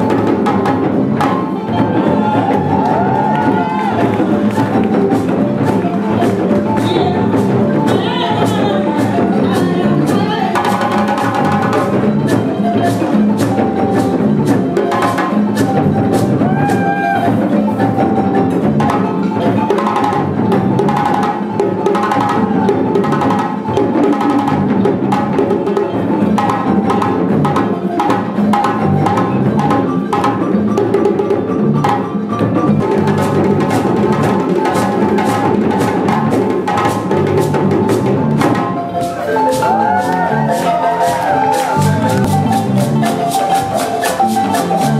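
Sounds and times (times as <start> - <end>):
hand drums: 0.0 - 44.9
wooden xylophone: 0.0 - 44.9.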